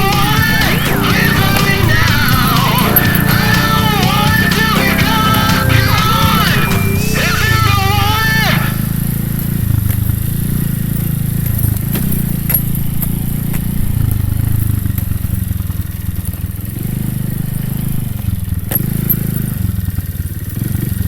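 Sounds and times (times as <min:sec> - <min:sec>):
sharp ticks and clatters: 0:00.0 - 0:07.6, 0:08.8 - 0:21.0
motorcycle engine running: 0:00.0 - 0:21.0.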